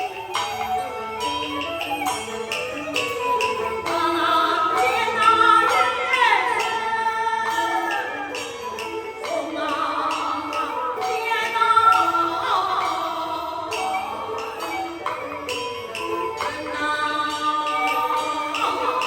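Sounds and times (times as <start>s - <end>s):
opera ensemble accompaniment: 0.0s - 19.0s.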